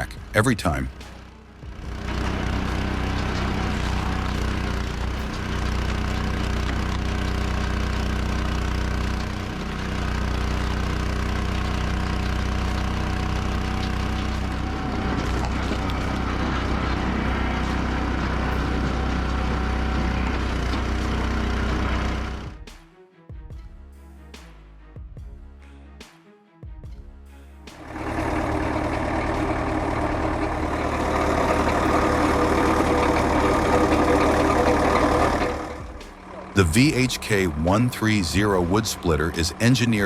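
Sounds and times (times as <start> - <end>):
machine engine running: 0.0 - 22.7, 27.8 - 40.0.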